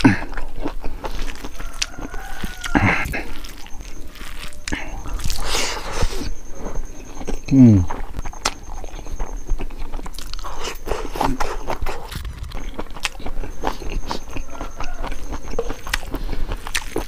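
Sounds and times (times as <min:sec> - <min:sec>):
wet chewing and biting: 0:00.0 - 0:17.0.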